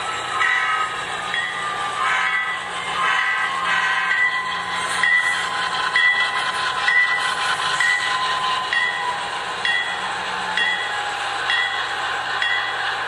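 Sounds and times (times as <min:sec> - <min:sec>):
model train running on track: 0:00.0 - 0:13.0
locomotive bell dinging: 0:00.4 - 0:13.0.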